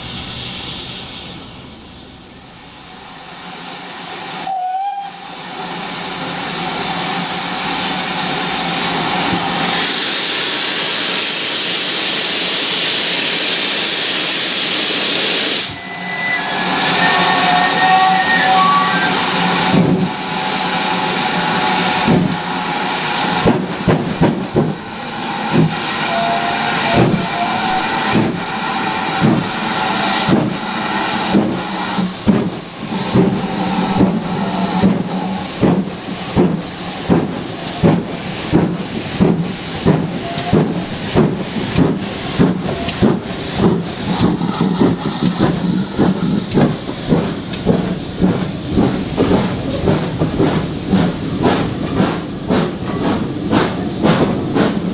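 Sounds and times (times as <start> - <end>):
steam hissing: 0.0 - 54.9
steam locomotive exhaust beats: 0.0 - 54.9.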